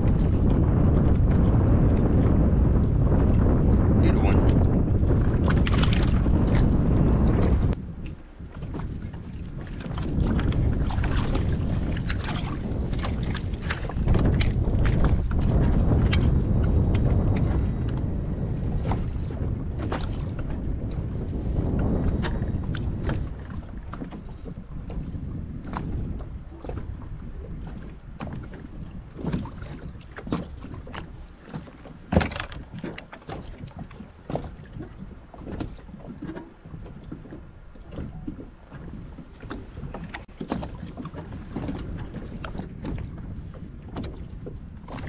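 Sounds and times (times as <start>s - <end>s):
water slapping boat hull: 0.0s - 45.0s
wind buffeting microphone: 0.0s - 45.0s.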